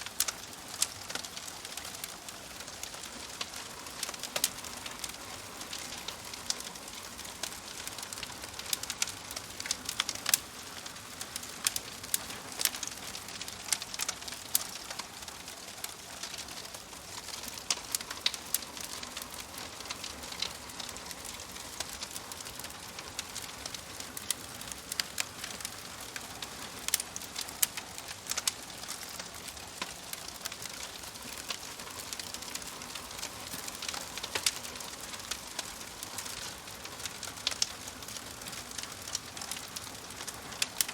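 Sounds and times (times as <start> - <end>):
fire hissing: 0.0 - 40.9
logs crackling and popping: 0.0 - 40.9.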